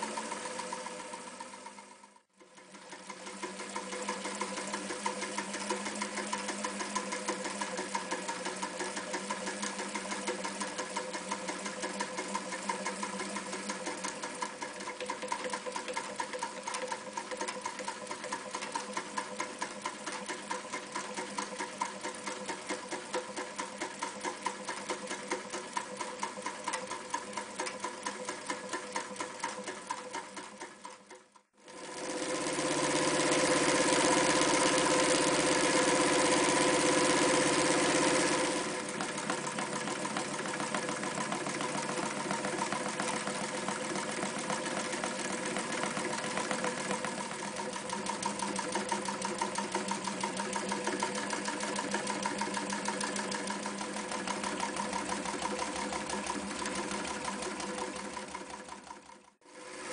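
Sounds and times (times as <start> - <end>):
sewing machine rhythmic clatter: 0.0 - 59.9.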